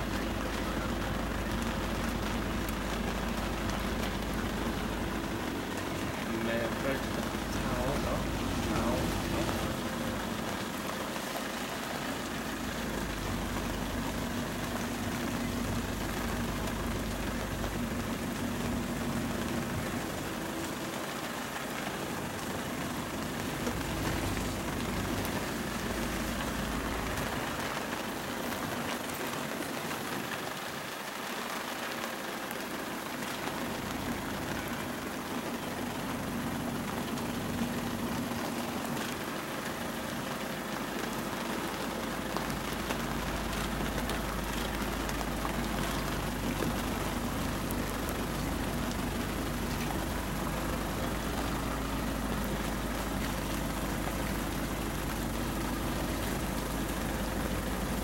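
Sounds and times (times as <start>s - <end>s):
car engine idling: 0.0s - 58.0s
heavy rain on a vehicle: 0.0s - 58.0s.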